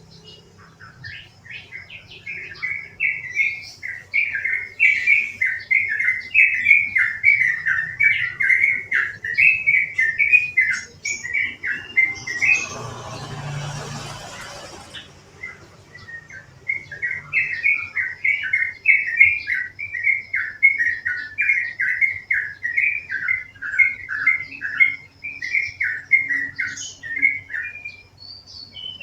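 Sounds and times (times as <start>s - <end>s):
bird chattering song: 0.0s - 29.0s.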